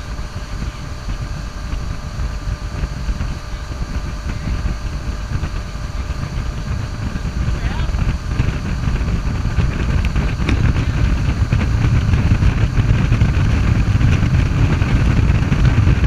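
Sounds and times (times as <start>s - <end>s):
motorboat engine running: 0.0s - 16.0s
rushing wake water: 0.0s - 16.0s.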